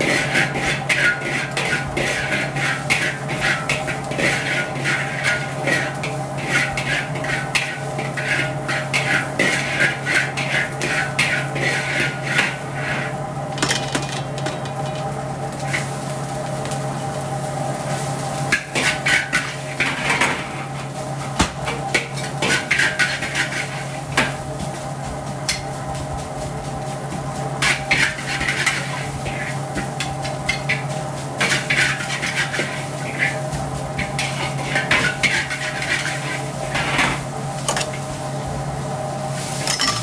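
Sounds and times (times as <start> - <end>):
spatula scraping a wok: 0.0 - 13.4, 17.8 - 38.3.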